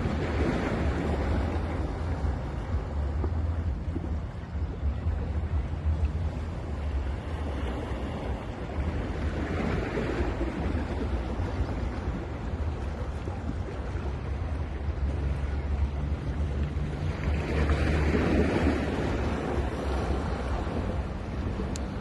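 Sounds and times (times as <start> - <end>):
sea waves breaking on beach: 0.0 - 22.0
wind rumble on microphone: 0.0 - 22.0.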